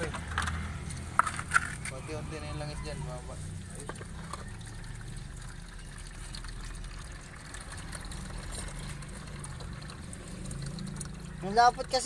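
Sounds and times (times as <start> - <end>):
oil trickling out: 0.0 - 12.0.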